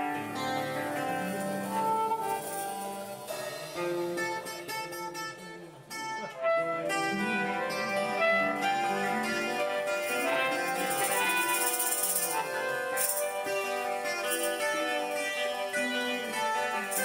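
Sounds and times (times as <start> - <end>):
live band playing strings: 0.0 - 17.0.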